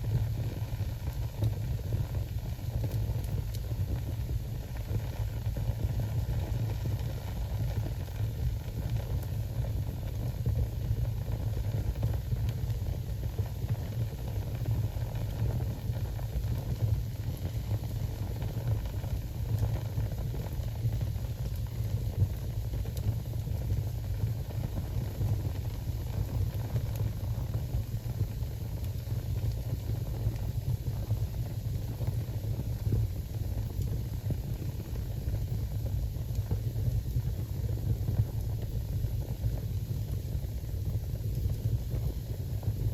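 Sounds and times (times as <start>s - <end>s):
fire crackling and popping: 0.0s - 42.9s
wood fire roaring: 0.0s - 42.9s.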